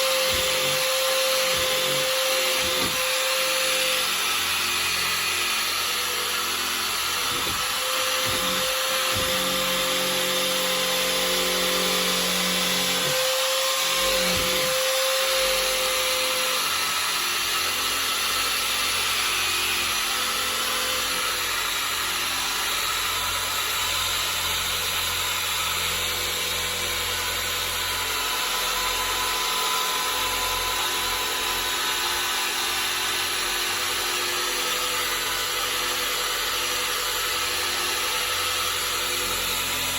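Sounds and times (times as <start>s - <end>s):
power drill scrubbing a panel: 0.0s - 39.9s.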